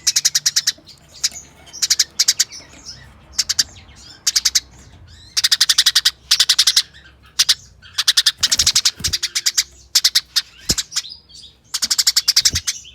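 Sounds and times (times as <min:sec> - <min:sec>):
sparrow chattering chirps: 0:00.0 - 0:12.9.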